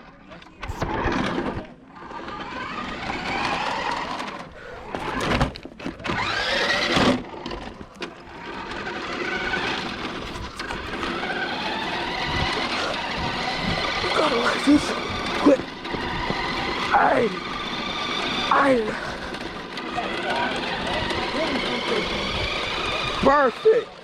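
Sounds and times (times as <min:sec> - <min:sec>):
toy truck electric motors whining: 0:00.4 - 0:24.0.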